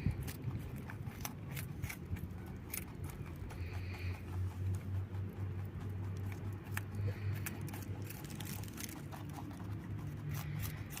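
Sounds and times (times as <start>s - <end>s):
rabbit chewing vegetables: 0.0s - 11.0s
steady low hum: 0.0s - 11.0s.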